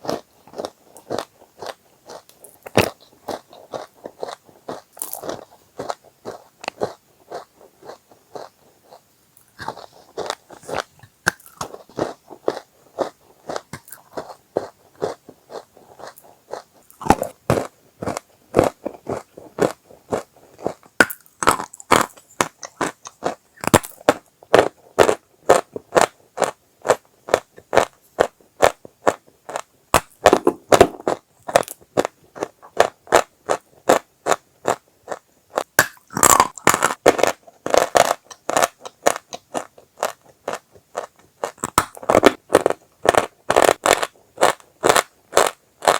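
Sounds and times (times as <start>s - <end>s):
chalk being chewed: 0.1s - 29.7s, 31.0s - 45.9s.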